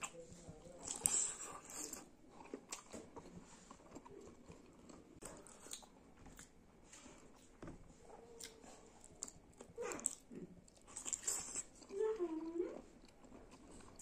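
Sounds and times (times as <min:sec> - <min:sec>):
person chewing: 0:00.8 - 0:06.6, 0:08.3 - 0:14.0.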